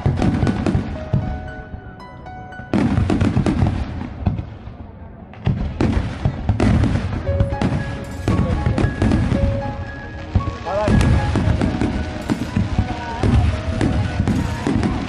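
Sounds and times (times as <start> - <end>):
fireworks crackling and booming: 0.0 - 15.0.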